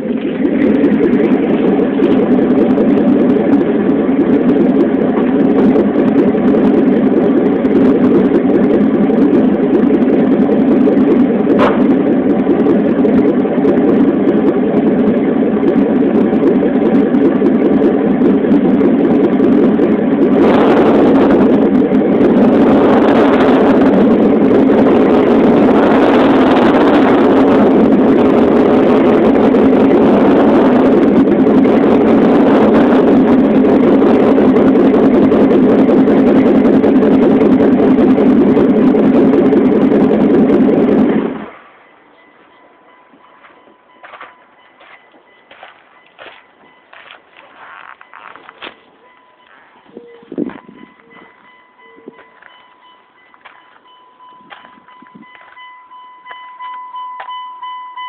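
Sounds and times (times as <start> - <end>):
car engine running: 0.0 - 41.6, 43.4 - 55.6.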